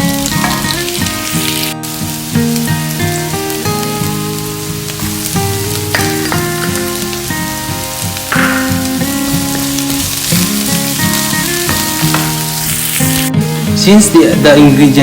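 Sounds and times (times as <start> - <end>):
background music: 0.0 - 15.0
garlic and onions sizzling in oil: 0.0 - 15.0.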